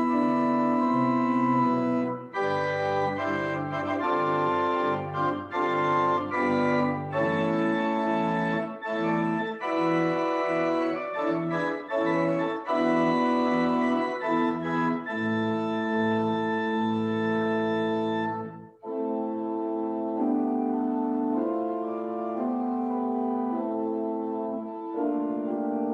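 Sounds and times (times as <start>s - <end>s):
organ playing chords: 0.0s - 25.9s.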